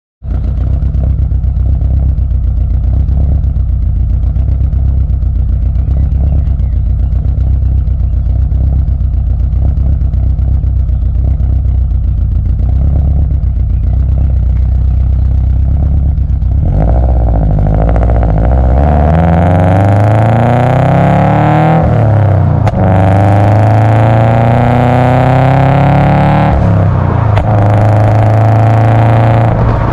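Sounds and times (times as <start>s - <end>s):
car engine idling and revving: 0.2s - 29.9s.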